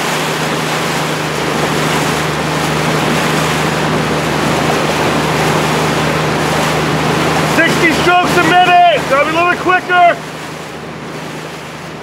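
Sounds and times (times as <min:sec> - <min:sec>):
motorboat engine humming: 0:00.0 - 0:12.0
rushing water: 0:00.0 - 0:12.0
wind: 0:00.0 - 0:12.0.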